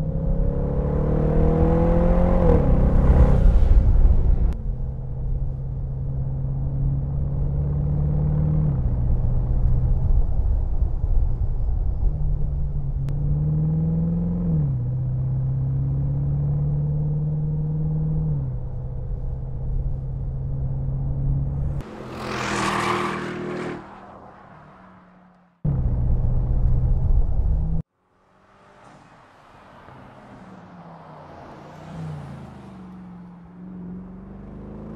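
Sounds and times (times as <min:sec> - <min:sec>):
car engine accelerating and shifting: 0:00.0 - 0:34.9.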